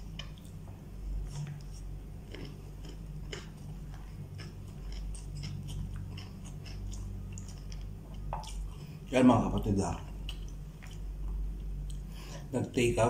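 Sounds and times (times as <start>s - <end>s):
person chewing food: 0.0s - 9.2s, 10.0s - 12.5s
steady low hum: 0.0s - 13.0s.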